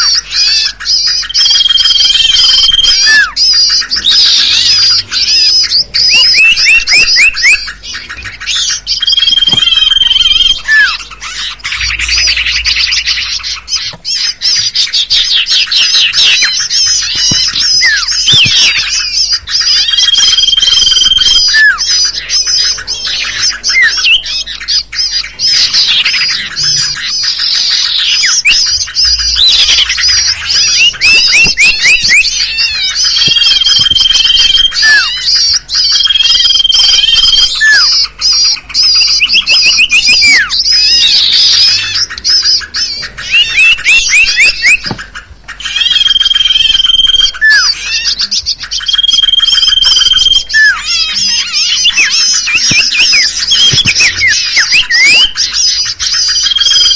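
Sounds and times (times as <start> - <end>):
small birds chattering and trilling: 0.0 - 56.9.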